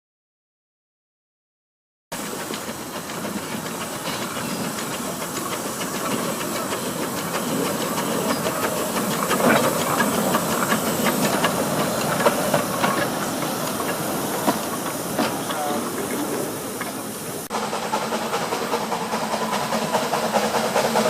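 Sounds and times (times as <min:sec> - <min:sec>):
steam locomotive hissing: 0:02.1 - 0:21.0.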